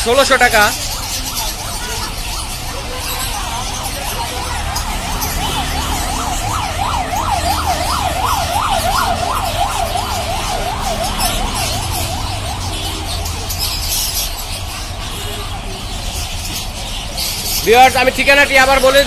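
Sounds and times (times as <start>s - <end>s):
yelping siren: 0.0s - 17.2s
low traffic rumble: 0.0s - 19.0s.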